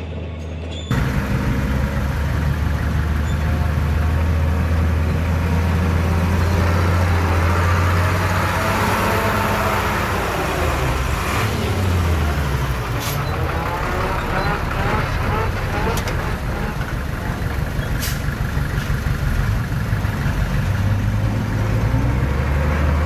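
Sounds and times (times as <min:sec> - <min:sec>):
diesel engine of heavy machinery: 0:00.0 - 0:23.0.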